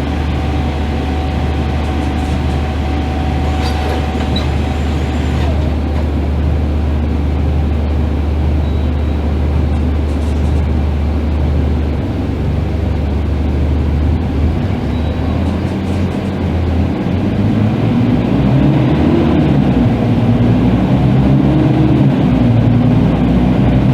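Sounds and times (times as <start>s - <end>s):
bus diesel engine droning: 0.0s - 23.9s.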